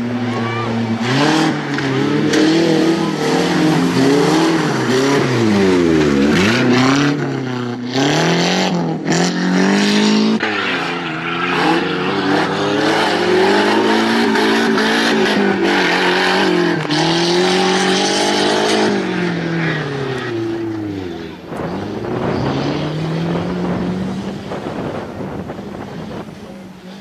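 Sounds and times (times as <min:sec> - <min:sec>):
buggy engine revving hard: 0:00.0 - 0:27.0.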